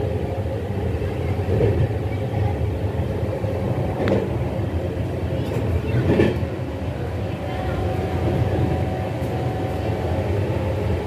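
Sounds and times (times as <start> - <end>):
train coach rumbling on rails: 0.0 - 11.0.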